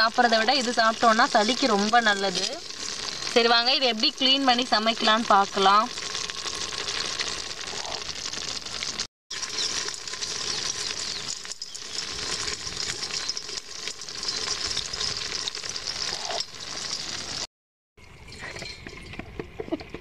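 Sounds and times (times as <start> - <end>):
crabs scratching in steel pot: 0.0 - 17.5.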